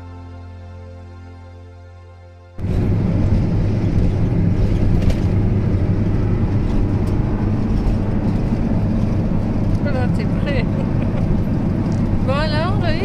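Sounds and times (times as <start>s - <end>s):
engine and road noise rumble: 2.6s - 13.0s.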